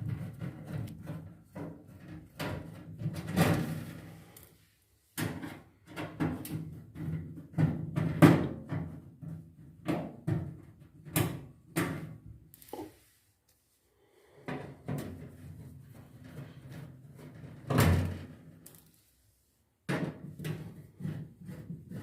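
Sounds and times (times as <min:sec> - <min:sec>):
knocks and scrapes on metal panel: 0:00.0 - 0:04.4, 0:05.2 - 0:12.2, 0:14.4 - 0:18.6, 0:19.9 - 0:22.0.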